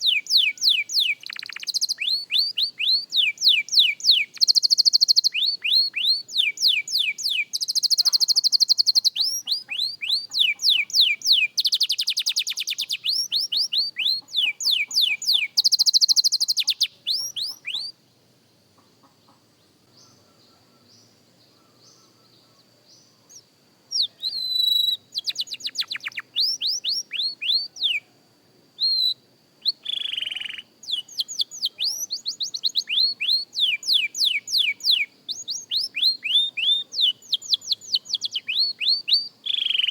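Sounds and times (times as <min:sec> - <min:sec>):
canary singing: 0:00.0 - 0:18.0, 0:23.3 - 0:28.1, 0:28.8 - 0:39.9.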